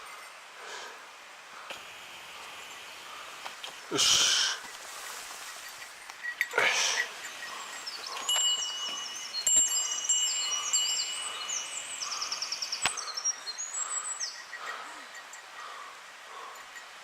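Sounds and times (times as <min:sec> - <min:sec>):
songbirds singing: 0:01.6 - 0:17.0.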